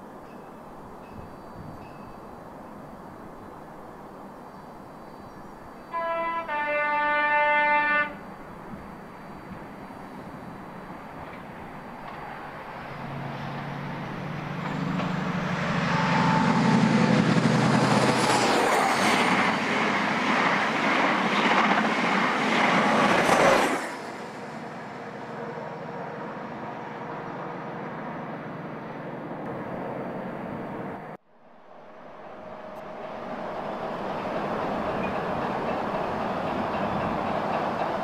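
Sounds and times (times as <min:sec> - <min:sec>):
diesel train engine: 0:00.0 - 0:38.0
train wheel and rail noise: 0:00.0 - 0:38.0.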